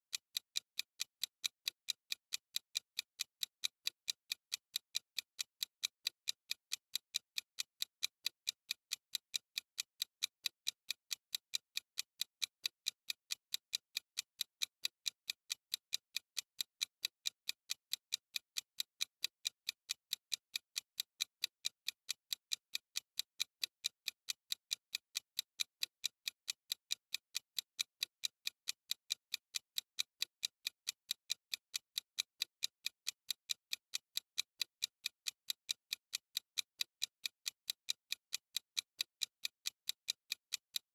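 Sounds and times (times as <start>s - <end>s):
clock ticking: 0.1s - 40.9s.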